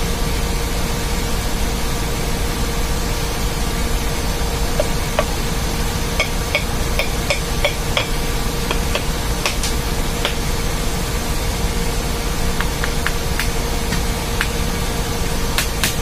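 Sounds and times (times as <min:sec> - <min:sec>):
ship machinery drone: 0:00.0 - 0:16.0.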